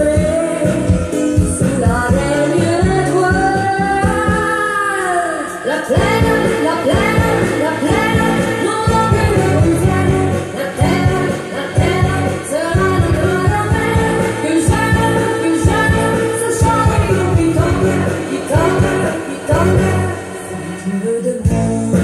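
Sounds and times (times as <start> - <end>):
song over loudspeakers: 0.0 - 22.0.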